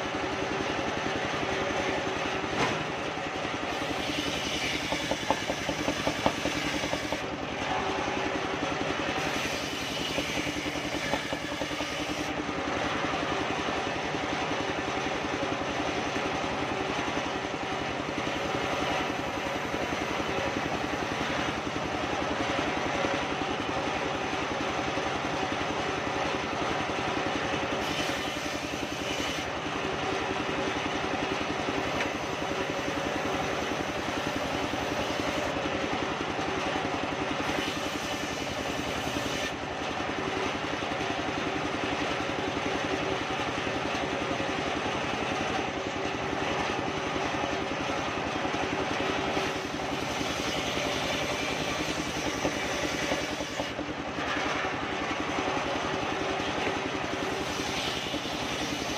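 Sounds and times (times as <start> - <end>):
circular sawmill cutting wood: 0.0 - 58.9.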